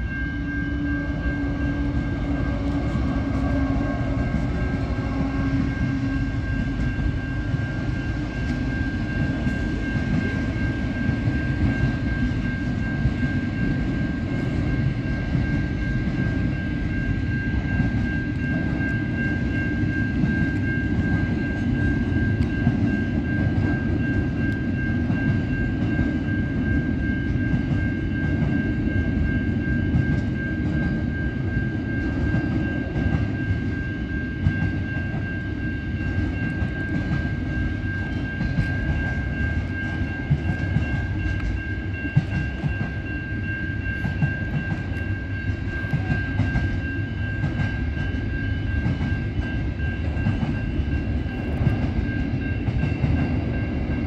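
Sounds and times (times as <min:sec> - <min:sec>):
crossing warning bell ringing: 0:00.0 - 0:54.0
freight train wheels rumbling on rails: 0:00.0 - 0:54.0.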